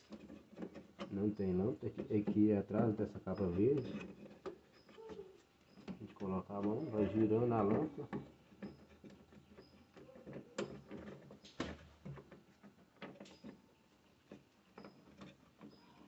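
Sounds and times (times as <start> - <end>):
faint clicks and plastic knocks: 0.0 - 16.0.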